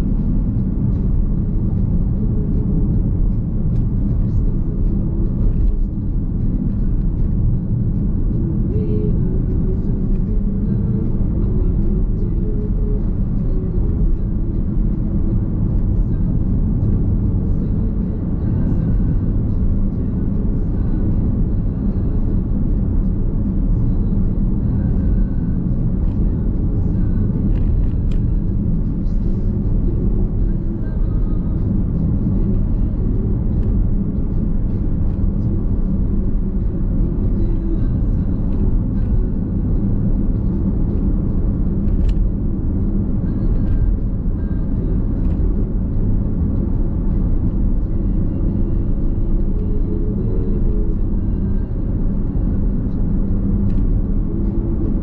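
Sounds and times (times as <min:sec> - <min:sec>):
road and tyre rumble in car: 0:00.0 - 0:55.0.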